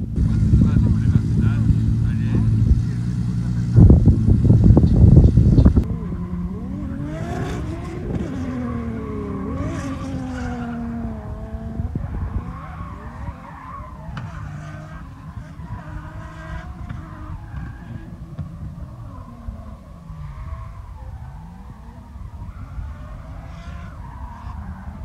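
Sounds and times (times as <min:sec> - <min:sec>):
car engines revving hard: 0:00.0 - 0:25.0
tyres skidding: 0:00.0 - 0:25.0.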